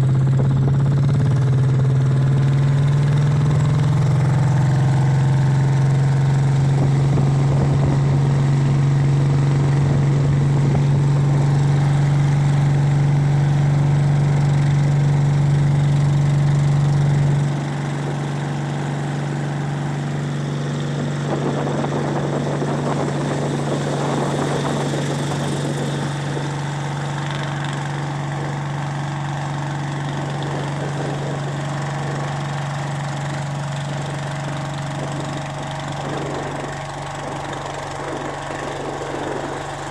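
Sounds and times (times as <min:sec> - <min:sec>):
boat engine humming: 0:00.0 - 0:39.9.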